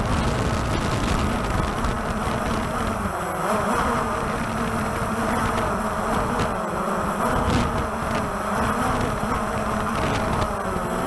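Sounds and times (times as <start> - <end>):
drone rotors buzzing: 0.0 - 11.0
wind rumble on microphone: 0.0 - 11.0.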